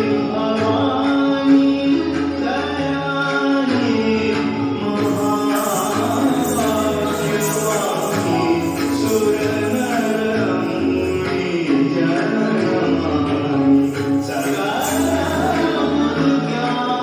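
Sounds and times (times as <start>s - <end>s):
devotional song with instruments: 0.0s - 17.0s.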